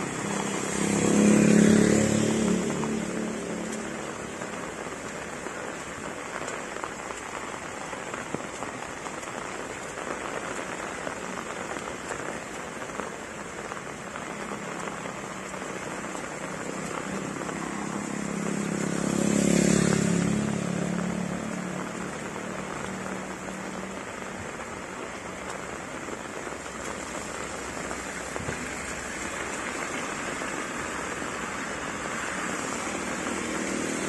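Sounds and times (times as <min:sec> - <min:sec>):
heavy rain on road: 0:00.0 - 0:34.0
vehicle passing on wet road: 0:00.0 - 0:34.0.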